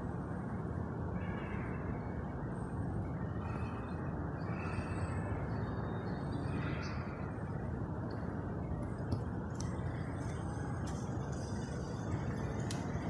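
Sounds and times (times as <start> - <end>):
faint higher sounds: 0.0 - 13.0
low rumbling noise: 0.0 - 13.0.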